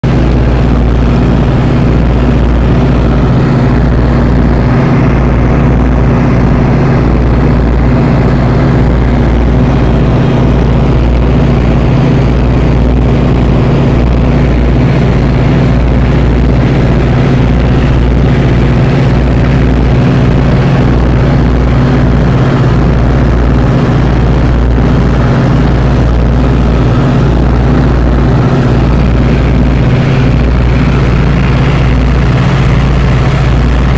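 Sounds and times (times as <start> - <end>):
airplane piston engines droning: 0.0 - 33.9.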